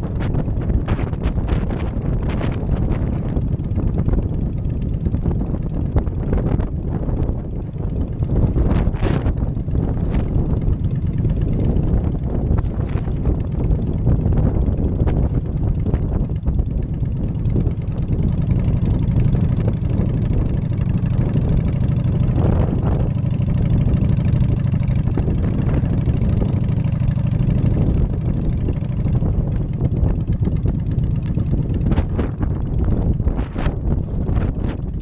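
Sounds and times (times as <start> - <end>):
motorcycle engine running: 0.0 - 35.0
tyres on gravel road: 0.0 - 35.0
wind hitting microphone: 0.0 - 35.0.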